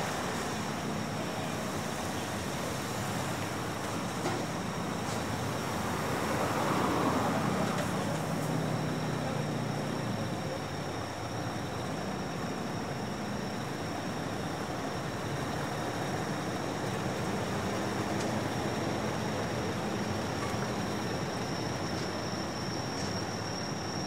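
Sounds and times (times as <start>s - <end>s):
heavy truck engines: 0.0s - 24.0s
road traffic noise: 0.0s - 24.0s.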